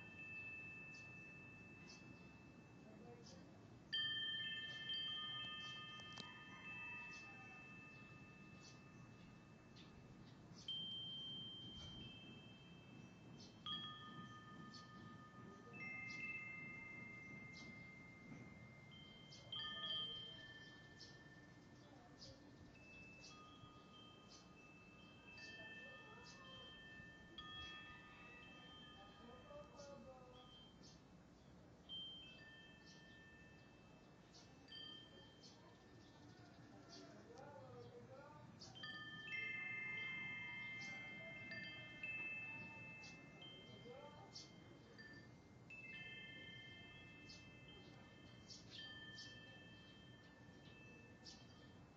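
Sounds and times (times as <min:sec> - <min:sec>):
metal wind chime ringing: 0:00.0 - 0:51.9.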